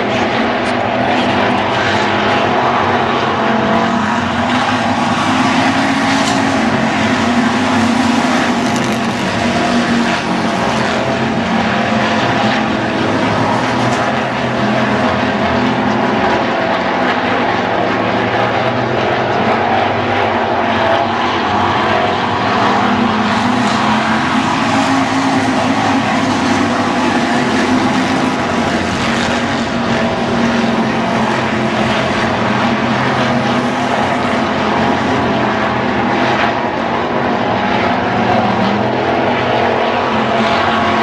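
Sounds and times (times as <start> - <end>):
race car engines droning: 0.0 - 41.0.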